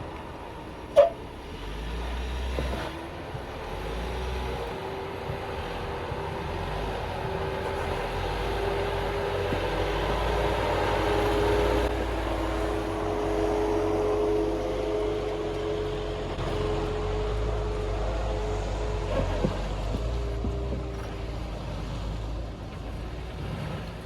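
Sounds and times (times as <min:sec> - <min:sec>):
car engine rumbling with whine: 0:00.0 - 0:24.0.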